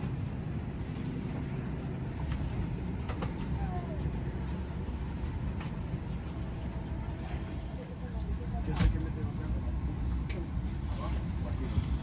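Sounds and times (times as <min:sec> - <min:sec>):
low hum of air and machinery: 0:00.0 - 0:12.0.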